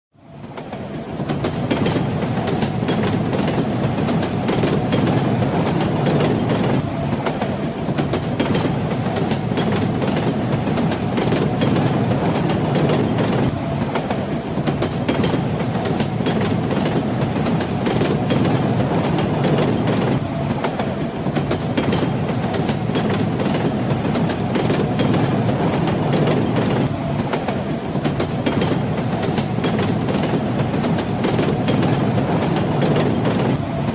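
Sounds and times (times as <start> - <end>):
train wheels rumbling on rails: 0.2 - 33.9.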